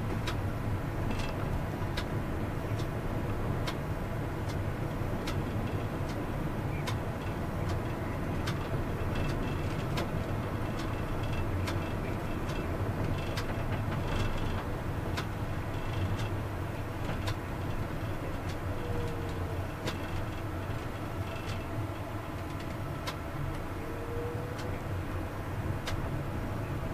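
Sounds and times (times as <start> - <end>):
tram rumbling along track: 0.0 - 26.9.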